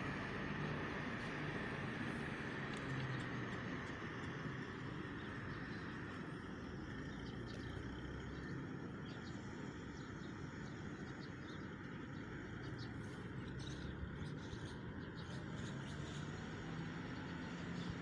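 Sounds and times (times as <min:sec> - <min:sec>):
birds chirping: 0:02.7 - 0:18.0.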